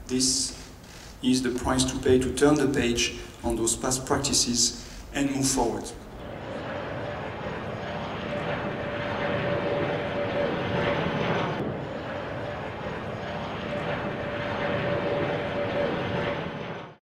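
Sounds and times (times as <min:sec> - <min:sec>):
faint engine whine: 0:00.0 - 0:17.0
jet engines rushing: 0:00.0 - 0:17.0.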